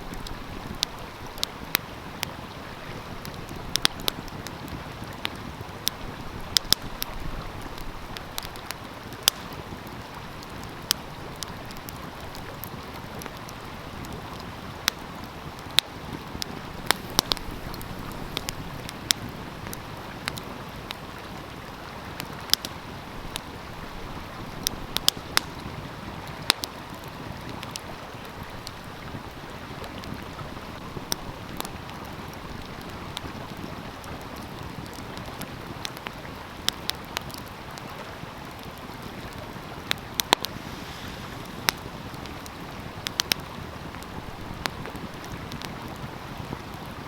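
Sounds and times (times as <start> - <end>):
stream flowing: 0.0 - 47.0
wood fire crackling: 0.0 - 47.0.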